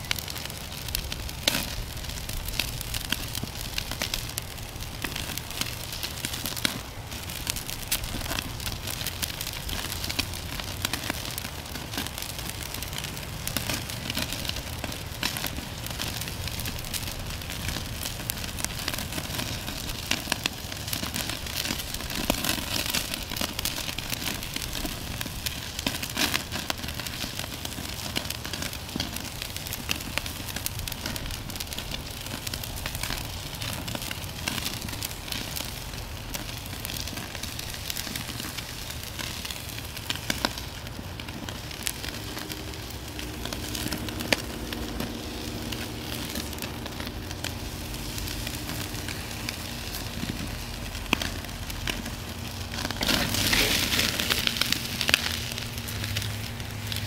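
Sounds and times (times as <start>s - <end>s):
steak sizzling on grill: 0.0s - 57.0s.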